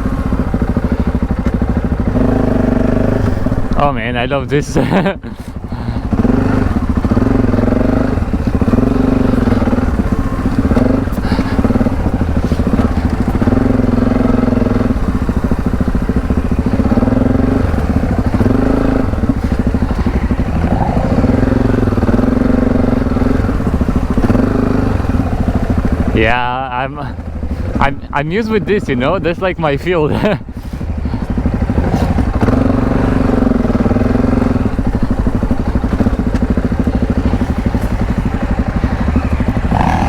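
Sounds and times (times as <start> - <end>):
motorcycle engine under load: 0.0 - 40.0.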